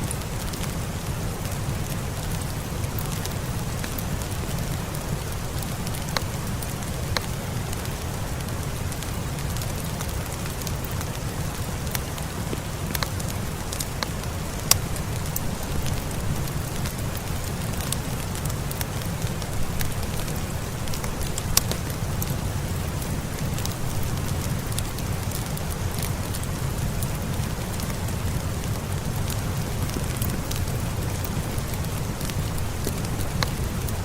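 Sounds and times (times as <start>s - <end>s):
fire crackling and popping: 0.0s - 34.0s
steady rain: 0.0s - 34.0s.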